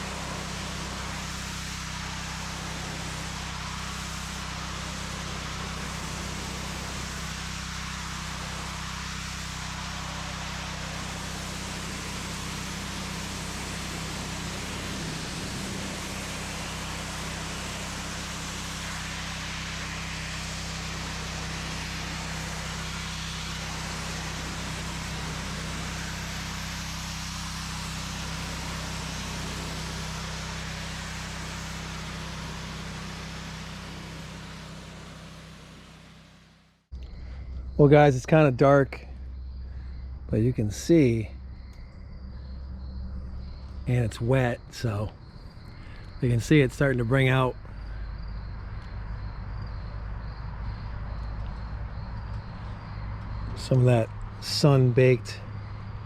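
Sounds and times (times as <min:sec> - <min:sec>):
water spray hiss: 0:00.0 - 0:36.6, 0:43.7 - 0:47.8, 0:50.1 - 0:56.0
pressure washer motor hum: 0:00.0 - 0:56.0.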